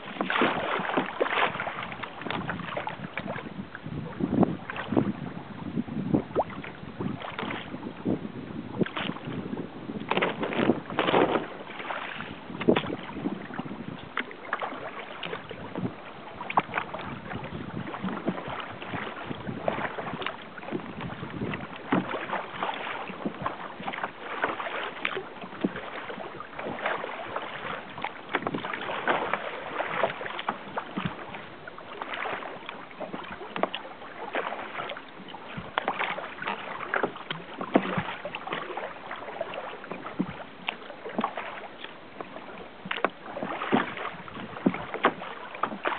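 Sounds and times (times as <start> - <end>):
water splashing against kayak hull: 0.0 - 45.9.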